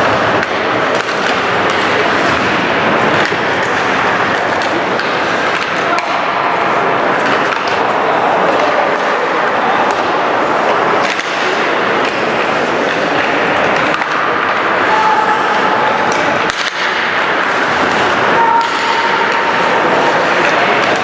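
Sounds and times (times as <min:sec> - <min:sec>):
skates scraping ice: 0:00.0 - 0:21.0
spectators chatting: 0:00.0 - 0:21.0
sticks and puck clacking: 0:00.0 - 0:21.0.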